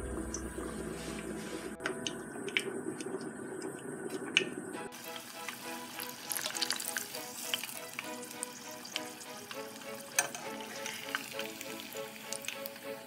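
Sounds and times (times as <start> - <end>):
background music: 0.0 - 2.9, 4.6 - 13.0
oil sizzling and crackling: 0.0 - 13.0.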